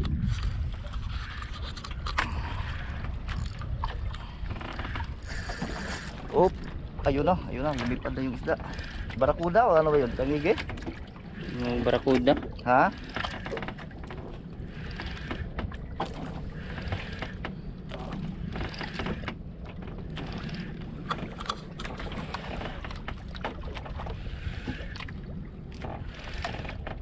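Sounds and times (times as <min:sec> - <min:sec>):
boat motor running: 0:00.0 - 0:27.0
water noise: 0:00.0 - 0:27.0
wind: 0:00.0 - 0:27.0.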